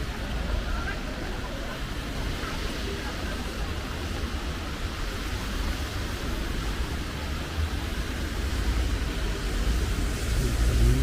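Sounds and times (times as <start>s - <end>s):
rain hissing on street: 0.0s - 11.0s
traffic rumble: 0.0s - 11.0s.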